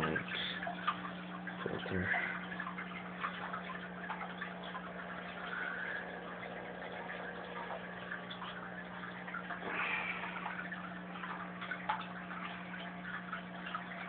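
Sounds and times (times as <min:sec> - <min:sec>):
filter motor hum: 0:00.0 - 0:14.0
water trickling and bubbling: 0:00.0 - 0:14.0.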